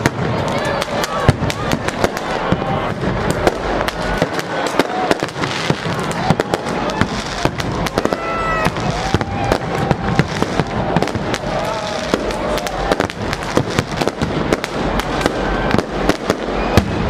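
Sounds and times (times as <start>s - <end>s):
firework whistles: 0.0s - 17.0s
fireworks and firecrackers bangs: 0.0s - 17.0s.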